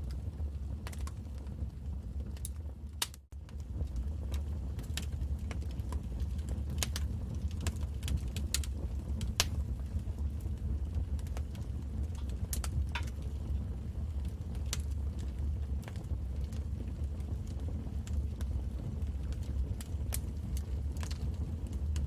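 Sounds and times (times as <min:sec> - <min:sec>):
low steady rumble: 0:00.0 - 0:22.0
wood fire crackling and popping: 0:00.0 - 0:22.0.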